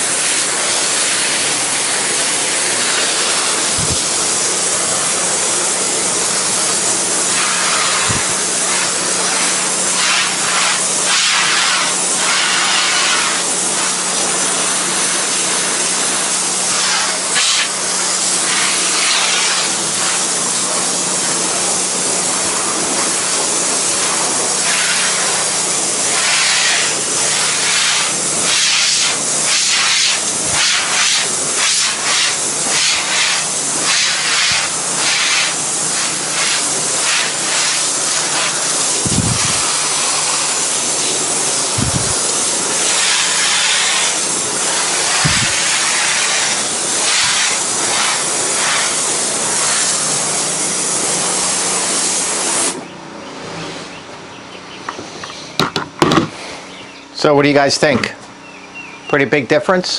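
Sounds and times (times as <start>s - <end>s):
pressure washer spray hissing: 0.0s - 52.8s.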